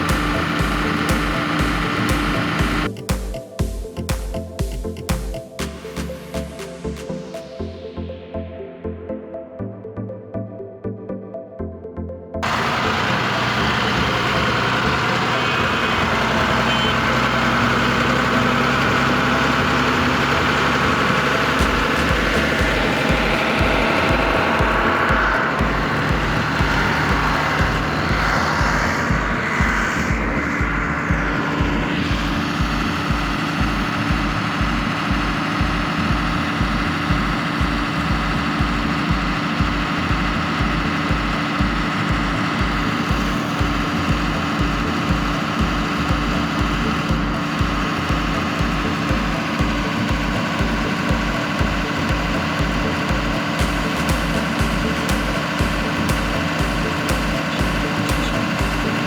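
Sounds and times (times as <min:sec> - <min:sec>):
engine running: 0:00.0 - 0:07.3, 0:12.4 - 0:59.0.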